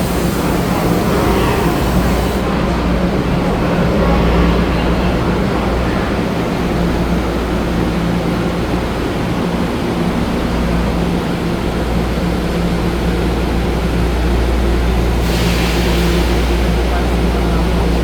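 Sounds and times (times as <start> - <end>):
train running with low hum: 0.0 - 18.0.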